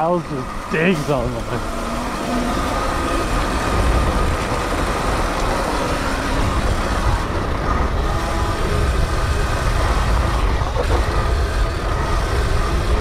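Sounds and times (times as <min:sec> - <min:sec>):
faint electric motor whine: 0:00.0 - 0:13.0
wind rumble on microphone: 0:00.4 - 0:13.0.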